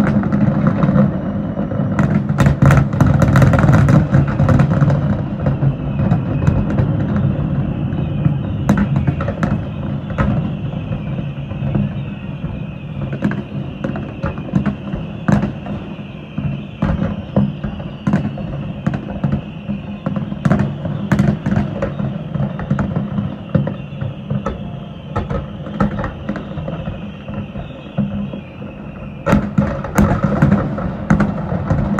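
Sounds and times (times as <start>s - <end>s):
fireworks bangs and pops: 0.0s - 31.9s.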